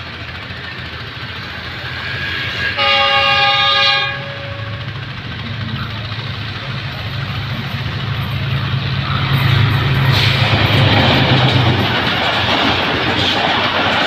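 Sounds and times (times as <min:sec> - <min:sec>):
diesel locomotive engine drone: 0:00.0 - 0:14.0
train coaches rattling by: 0:00.0 - 0:14.0.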